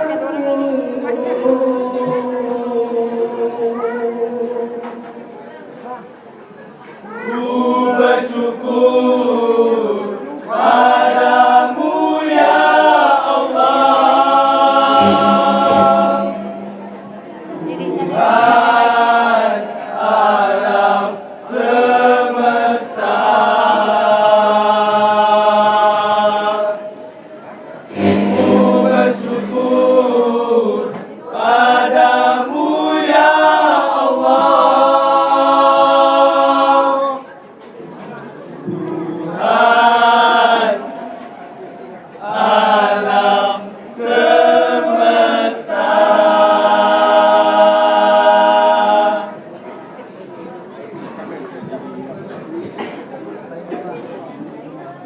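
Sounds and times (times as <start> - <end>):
chant-like singing: 0.0 - 5.5, 7.1 - 37.3, 38.4 - 49.8.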